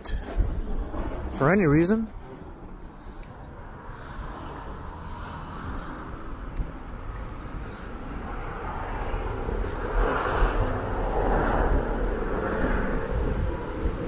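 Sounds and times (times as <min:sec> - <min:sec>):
vehicle passing: 0:00.3 - 0:14.0.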